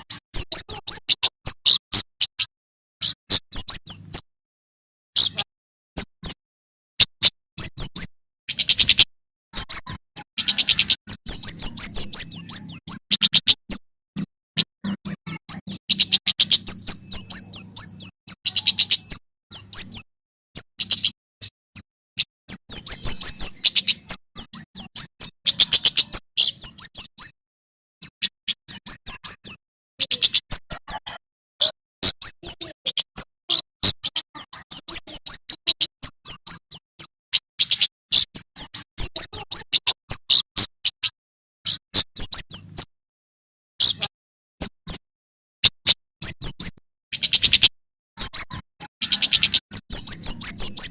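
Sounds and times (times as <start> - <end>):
songbird chirping: 0.0 - 4.3, 5.1 - 6.4, 7.2 - 13.8, 14.6 - 27.4, 28.0 - 41.1, 41.7 - 42.9, 46.2 - 50.9.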